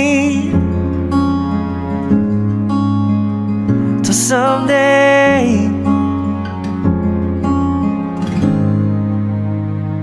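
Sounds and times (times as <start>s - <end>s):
acoustic guitar chord strummed: 0.0s - 10.0s.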